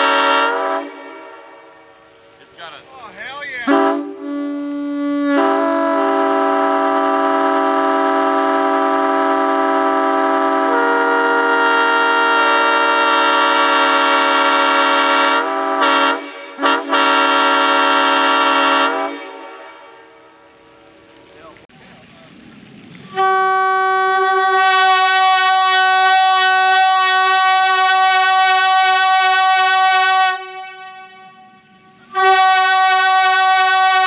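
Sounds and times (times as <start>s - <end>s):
locomotive air horn: 0.0s - 2.2s, 3.6s - 20.4s, 23.1s - 34.0s.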